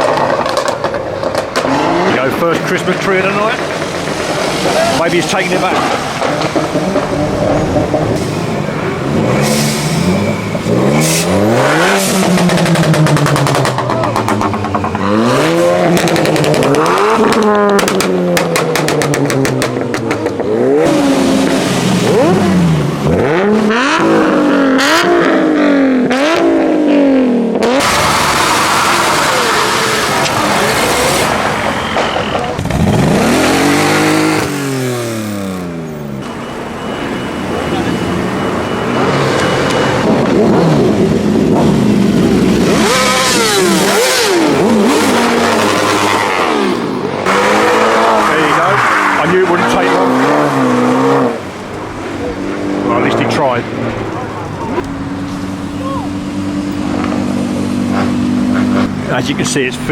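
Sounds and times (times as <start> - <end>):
car engines revving: 0.0 - 59.9
rapid exhaust crackling: 0.0 - 59.9.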